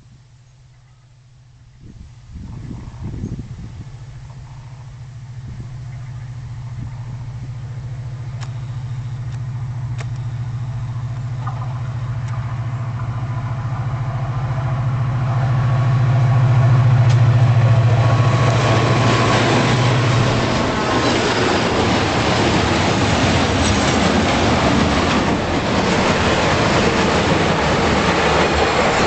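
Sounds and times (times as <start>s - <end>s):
diesel locomotive engine hum: 0.0s - 29.0s
wheels hissing on rails: 2.6s - 29.0s.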